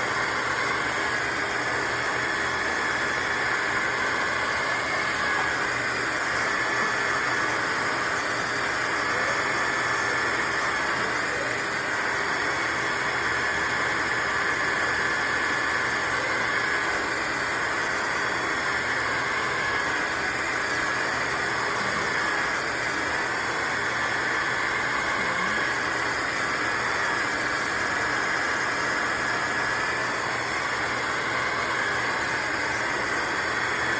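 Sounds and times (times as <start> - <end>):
wet-dry vacuum mop running: 0.0 - 33.9.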